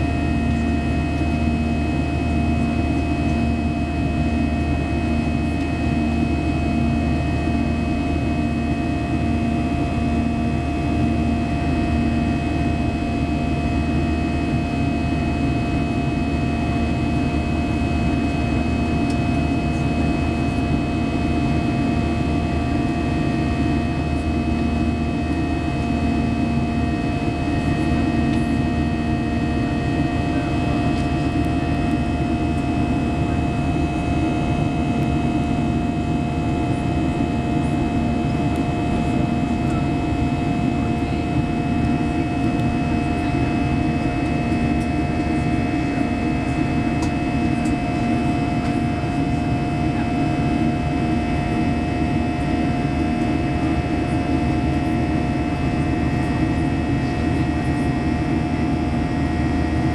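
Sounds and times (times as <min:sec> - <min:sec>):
steady whining tones: 0:00.0 - 0:53.7
jet engine rumble in cabin: 0:00.0 - 0:59.9.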